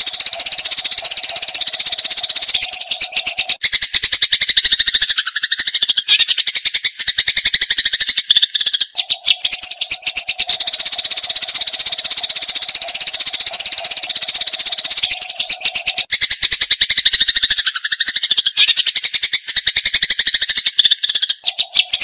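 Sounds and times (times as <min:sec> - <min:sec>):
sparrows chattering: 0:00.0 - 0:22.0.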